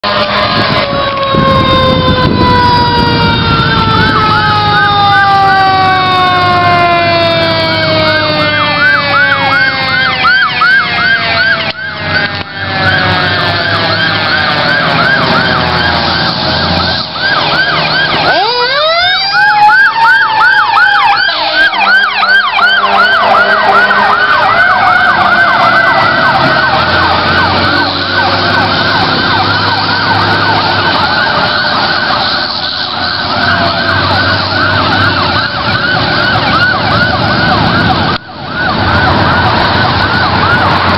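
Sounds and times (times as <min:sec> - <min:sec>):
fire engine sirens yelping and wailing: 0:00.0 - 0:40.9
low-pitched siren rising and falling: 0:00.0 - 0:40.9.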